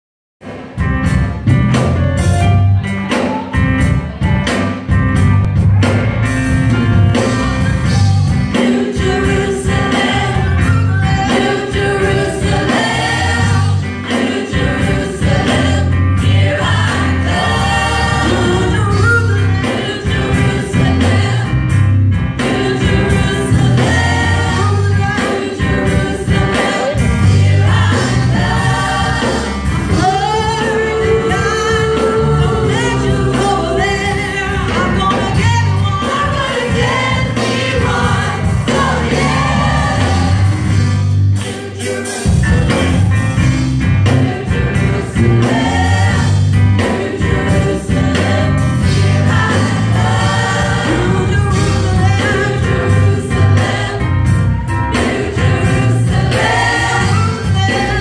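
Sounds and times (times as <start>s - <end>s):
guitar: 0.4s - 58.0s
keyboard: 0.4s - 58.0s
bass line: 0.8s - 58.0s
youth choir singing gospel: 5.8s - 58.0s.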